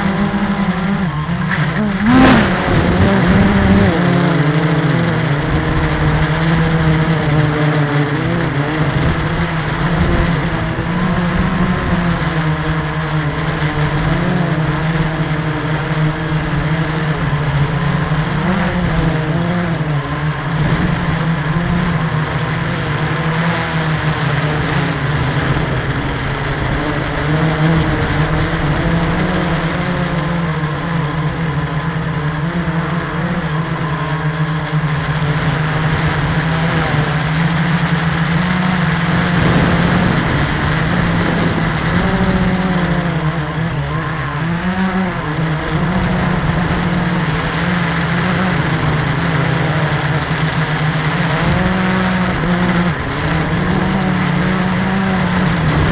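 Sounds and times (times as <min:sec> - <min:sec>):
drone propellers buzzing: 0:00.0 - 0:55.9.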